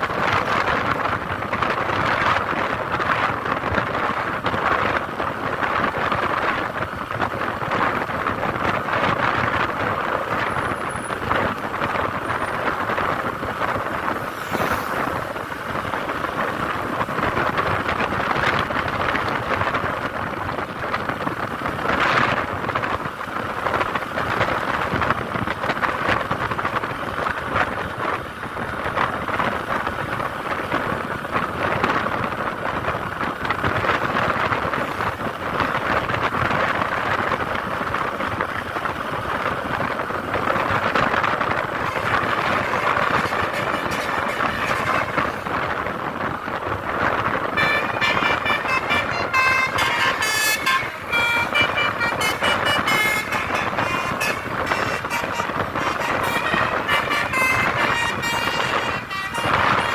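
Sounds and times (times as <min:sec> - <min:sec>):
steady vehicle noise: 0:00.0 - 0:59.9
wind buffeting microphone: 0:00.0 - 0:59.9.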